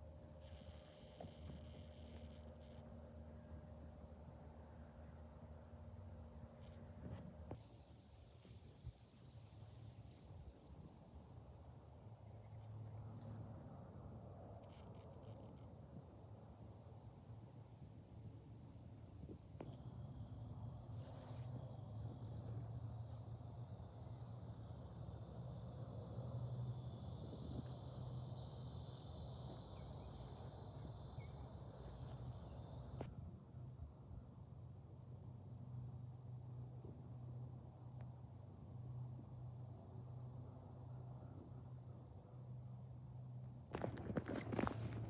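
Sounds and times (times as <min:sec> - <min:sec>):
high-pitched insect trill: 0:00.0 - 0:45.0.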